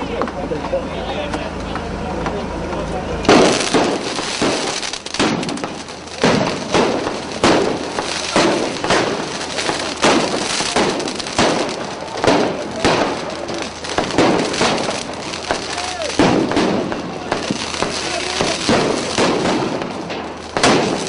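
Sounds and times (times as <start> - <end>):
sharp explosive bangs and smashes: 3.2 - 21.0.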